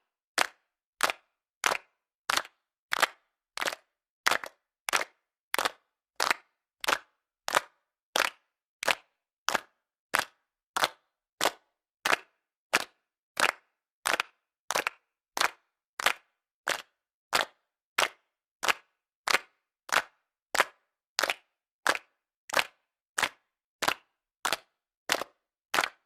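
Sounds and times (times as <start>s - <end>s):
people clapping in unison: 0.0s - 26.0s.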